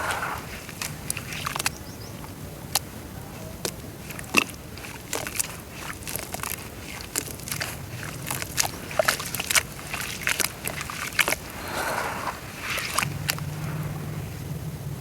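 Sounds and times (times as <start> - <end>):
dirt crumbling in water crackling: 0.0 - 15.0.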